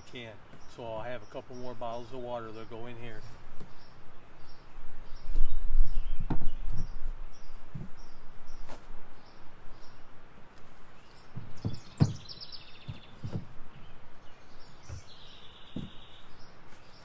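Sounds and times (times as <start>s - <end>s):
bird chirping: 0.0s - 10.2s, 10.8s - 17.0s.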